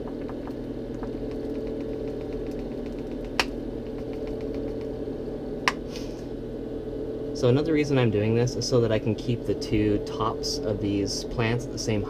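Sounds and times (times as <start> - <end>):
electric cooling fans humming: 0.0 - 12.0.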